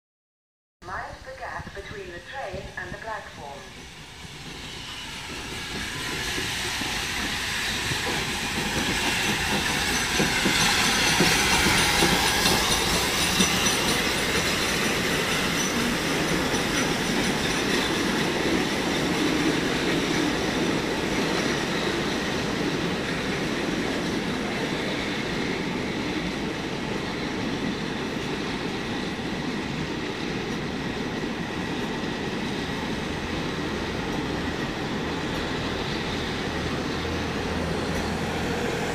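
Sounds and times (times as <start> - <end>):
steam locomotive passing: 0.9 - 38.9.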